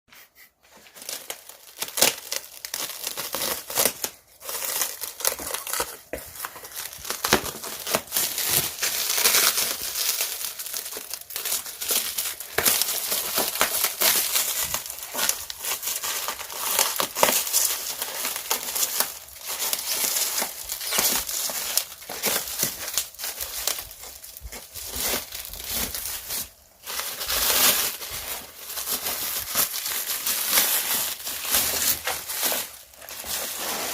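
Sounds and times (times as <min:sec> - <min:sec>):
crinkling of wrapping: 0:00.6 - 0:33.9.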